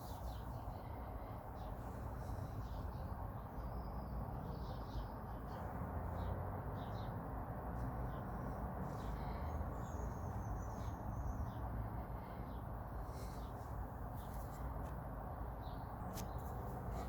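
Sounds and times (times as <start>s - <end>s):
birds chirping faintly: 0.0s - 17.0s
low background noise: 0.0s - 17.0s.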